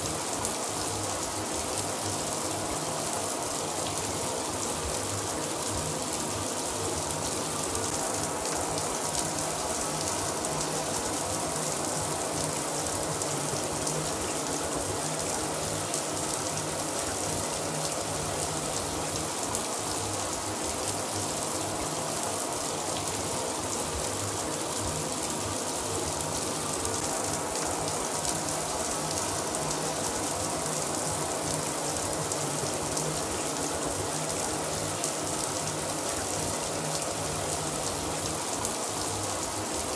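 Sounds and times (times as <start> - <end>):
shower water running: 0.0 - 39.9.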